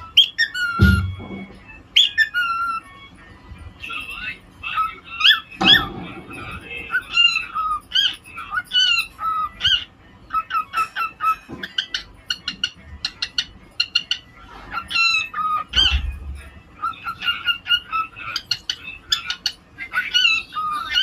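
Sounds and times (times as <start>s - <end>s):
cockatiel chirping and whistling: 0.0s - 2.9s, 3.8s - 21.0s.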